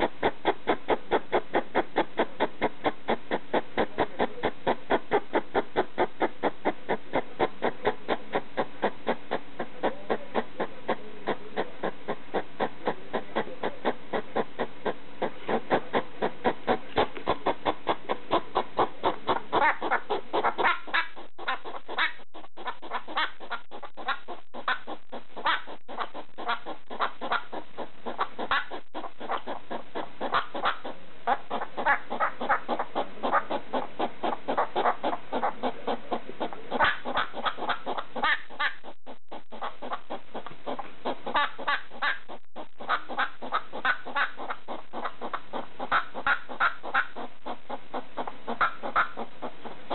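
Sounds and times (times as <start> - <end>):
hedgehog barking calls: 0.0 - 49.9.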